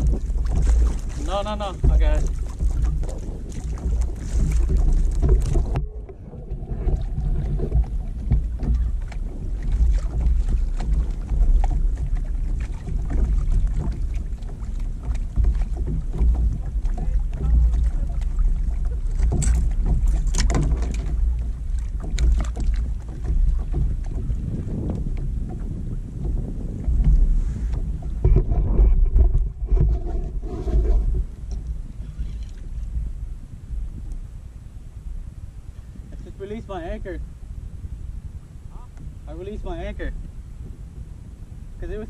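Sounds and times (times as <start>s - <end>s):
knocks and taps on boat: 0.0s - 34.2s, 38.7s - 41.1s
wind buffeting microphone: 0.0s - 42.0s.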